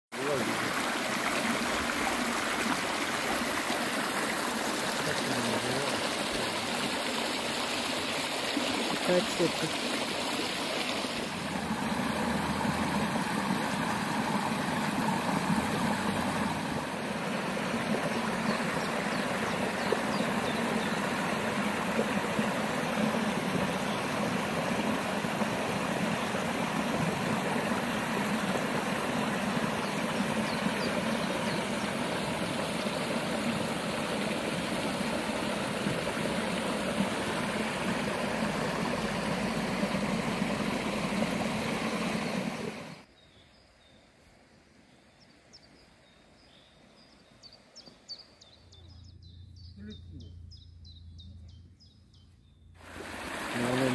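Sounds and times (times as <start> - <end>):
stream rushing over rocks: 0.2 - 43.1, 52.8 - 53.9.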